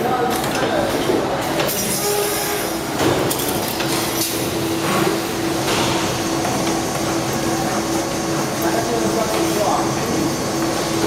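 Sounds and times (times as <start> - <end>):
wire bending machine running: 0.0 - 11.0.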